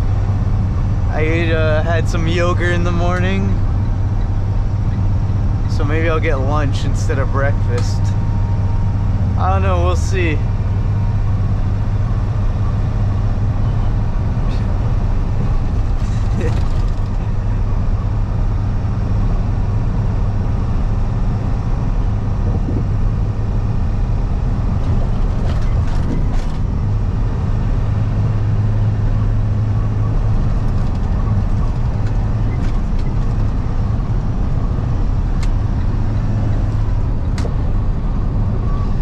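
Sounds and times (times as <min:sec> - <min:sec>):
truck engine and road noise: 0:00.0 - 0:39.0.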